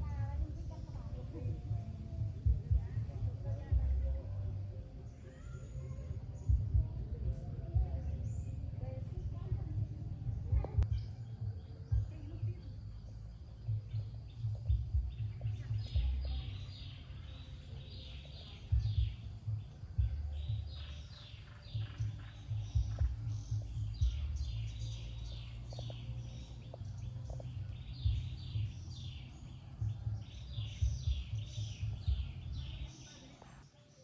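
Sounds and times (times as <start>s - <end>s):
low rumble: 0.0s - 32.9s
birds chirping: 0.0s - 34.0s.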